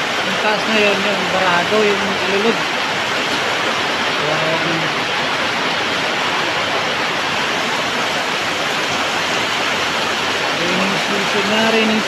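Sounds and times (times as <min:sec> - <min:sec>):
heavy rain: 0:00.0 - 0:12.0
water pouring onto metal roof: 0:00.0 - 0:12.0.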